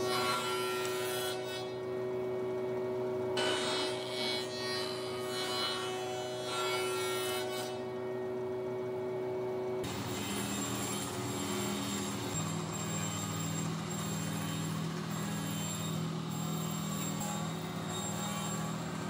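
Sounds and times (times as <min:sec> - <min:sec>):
table saw running: 0:00.0 - 0:02.2, 0:03.0 - 0:09.2, 0:09.8 - 0:19.0.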